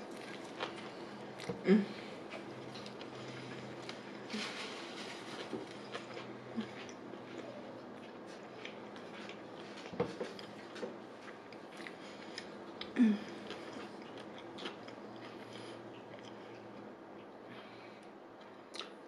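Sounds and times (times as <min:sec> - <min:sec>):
close chewing with mouth clicks: 0:00.0 - 0:01.6, 0:02.2 - 0:17.4, 0:18.4 - 0:19.0.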